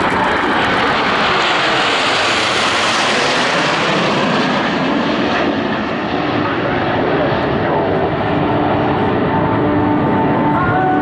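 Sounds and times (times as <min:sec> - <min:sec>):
jets passing overhead: 0:00.0 - 0:11.0.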